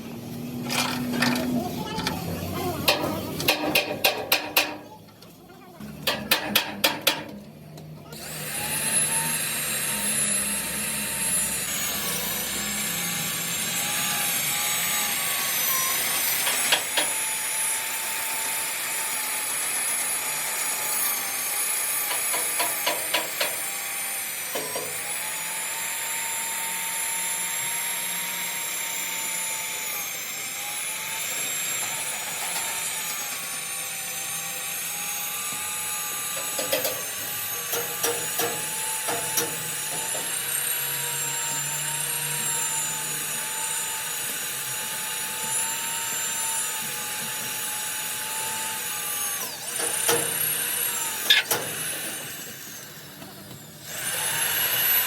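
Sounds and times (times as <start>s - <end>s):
power tool whining: 0.0s - 3.9s, 8.0s - 55.0s.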